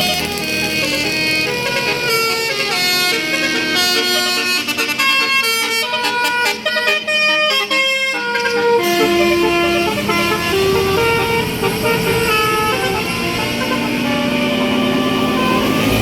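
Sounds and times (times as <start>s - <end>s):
bus engine and road noise: 0.0s - 16.0s
multi-tone bus horn tune: 0.0s - 16.0s.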